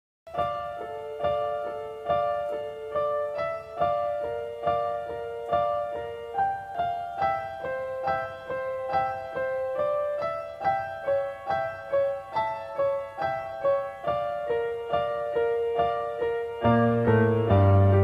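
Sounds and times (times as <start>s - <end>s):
slow piano ballad: 0.3s - 18.0s.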